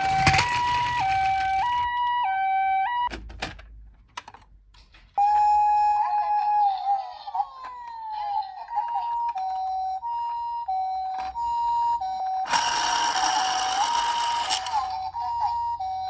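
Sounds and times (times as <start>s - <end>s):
two-tone ambulance siren: 0.0s - 3.1s, 5.2s - 16.0s.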